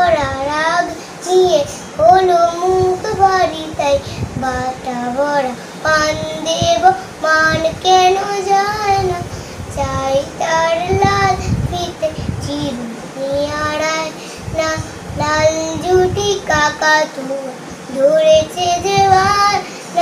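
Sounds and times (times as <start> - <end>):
boy singing: 0.0 - 20.0.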